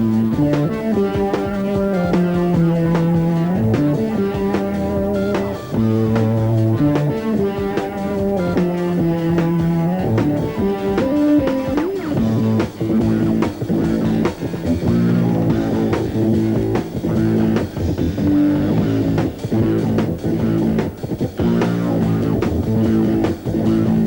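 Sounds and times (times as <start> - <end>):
bass guitar: 0.0 - 24.0
drum hits: 0.0 - 24.0
electric guitar: 0.0 - 24.0.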